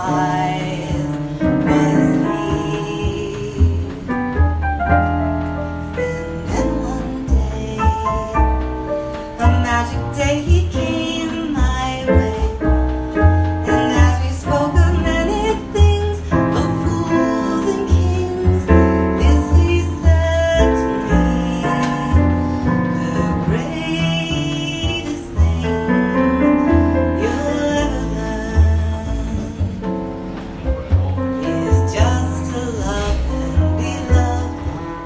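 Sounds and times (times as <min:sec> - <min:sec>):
woman singing: 0:00.0 - 0:04.5, 0:05.2 - 0:30.4, 0:31.0 - 0:35.0
bass line: 0:00.0 - 0:35.0.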